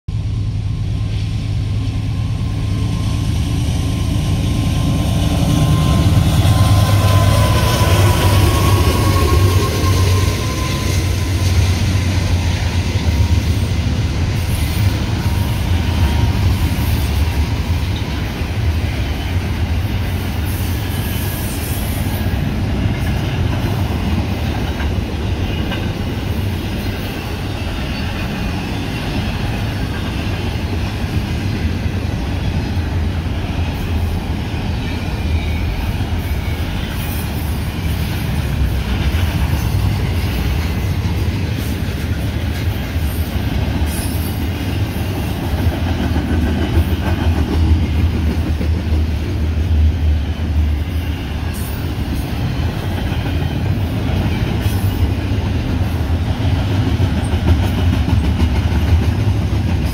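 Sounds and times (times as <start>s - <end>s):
diesel locomotive engines rumbling: 0.1s - 59.9s.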